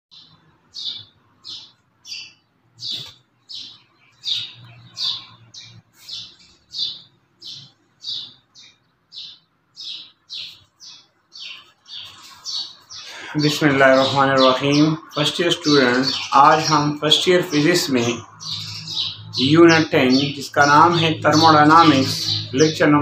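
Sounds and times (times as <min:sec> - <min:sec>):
small bird chirping: 0:00.1 - 0:23.0.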